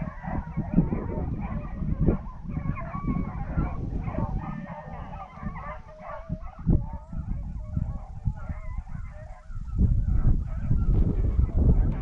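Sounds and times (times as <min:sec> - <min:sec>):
dogs baying: 0:00.0 - 0:12.0.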